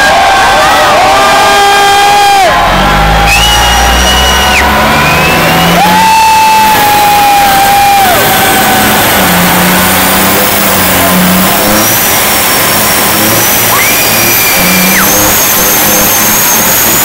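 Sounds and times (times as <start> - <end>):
truck diesel engine revving: 1.1 - 17.0.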